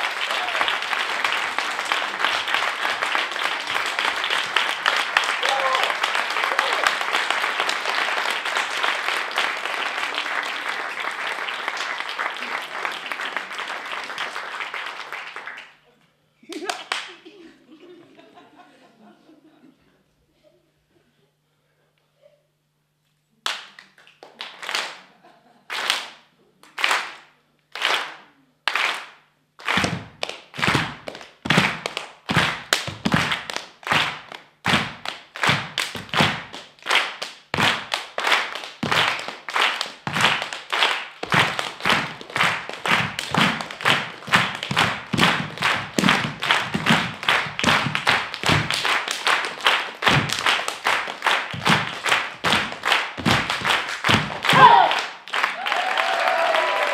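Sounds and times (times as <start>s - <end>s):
people clapping in unison: 0.0s - 17.4s, 23.4s - 56.9s.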